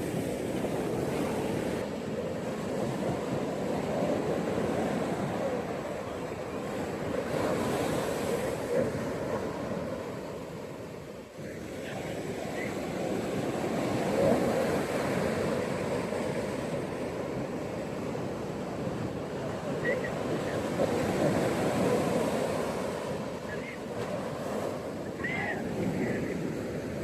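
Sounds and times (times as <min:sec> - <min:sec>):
ocean surf washing: 0:00.0 - 0:27.0.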